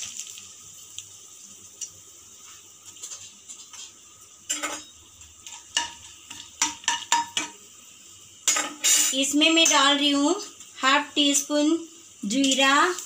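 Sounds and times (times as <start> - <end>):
spices sizzling in oil: 0.0 - 13.0.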